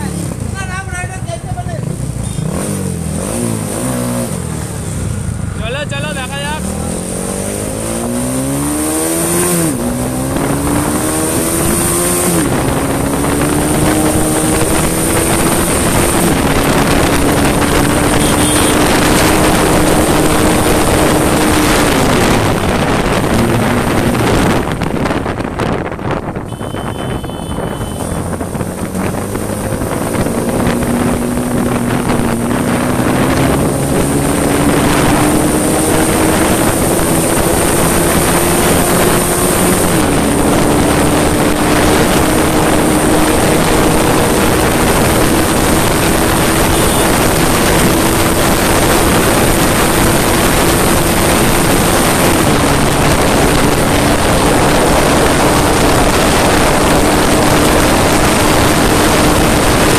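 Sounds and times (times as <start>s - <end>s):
motorcycle engine accelerating: 0.0s - 59.9s
wind rushing over microphone: 6.9s - 59.9s.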